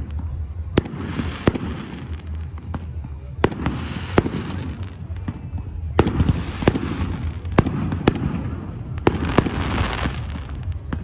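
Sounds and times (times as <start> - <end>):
firework shells bursting: 0.0 - 11.0
fireworks crackling: 0.0 - 11.0.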